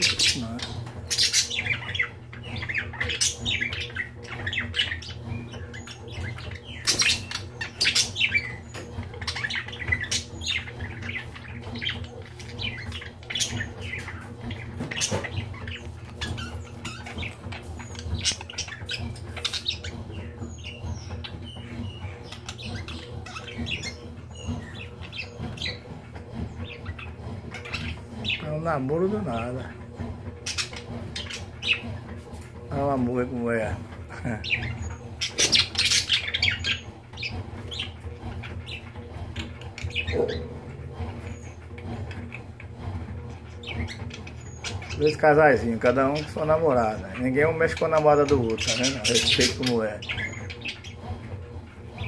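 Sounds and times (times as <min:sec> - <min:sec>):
budgerigars chattering: 0:00.0 - 0:29.8, 0:30.4 - 0:52.0.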